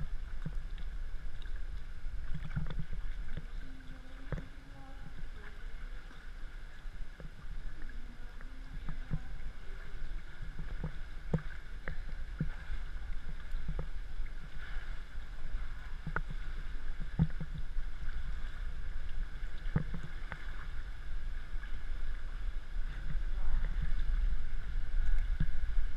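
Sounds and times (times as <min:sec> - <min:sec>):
steady low rumble: 0:00.0 - 0:25.9
water splashing from swimming strokes: 0:00.0 - 0:25.9.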